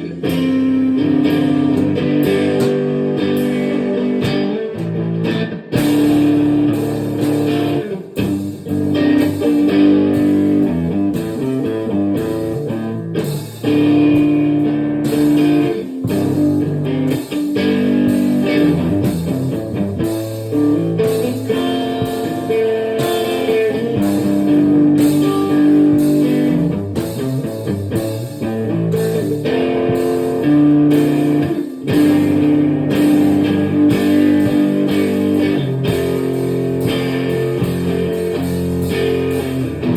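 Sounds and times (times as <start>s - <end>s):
electric guitar playing chords: 0.0s - 39.9s.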